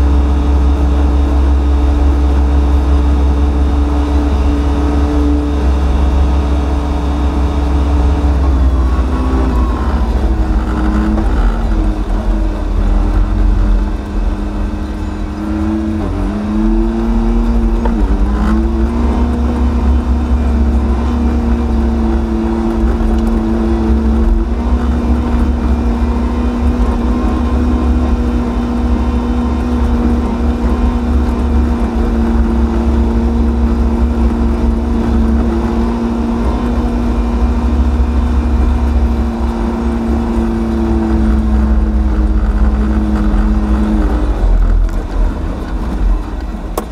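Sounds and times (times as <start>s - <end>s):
tractor diesel engine in cab: 0.0s - 46.9s.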